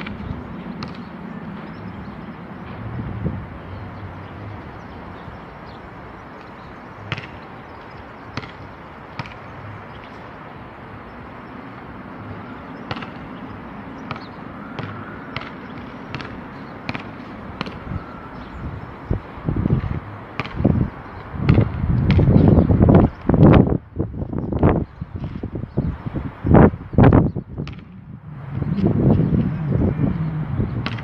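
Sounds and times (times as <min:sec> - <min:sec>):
outdoor background noise: 0:00.0 - 0:31.0.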